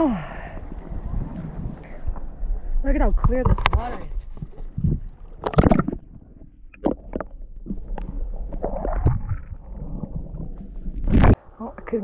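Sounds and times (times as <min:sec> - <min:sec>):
water sloshing and splashing: 0:00.4 - 0:11.5.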